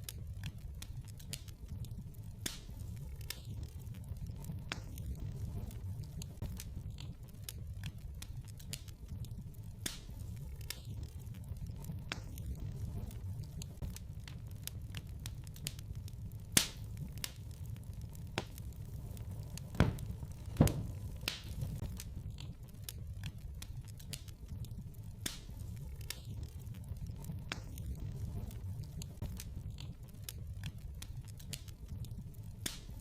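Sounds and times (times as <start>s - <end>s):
fire sharp pops: 0.0s - 33.0s
wood fire crackling: 0.0s - 33.0s.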